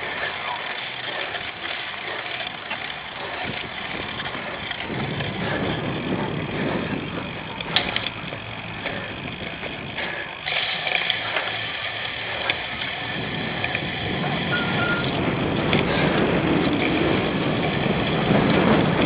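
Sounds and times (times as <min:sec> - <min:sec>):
bike rattling over rough ground: 0:00.0 - 0:19.0.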